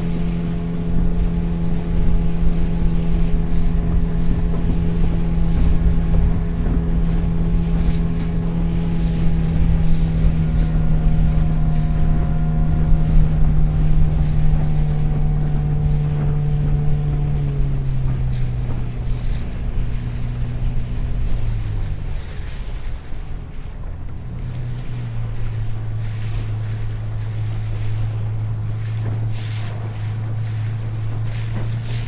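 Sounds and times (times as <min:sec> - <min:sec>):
motorboat engine running: 0:00.0 - 0:32.0
wind rumble on microphone: 0:00.0 - 0:32.0.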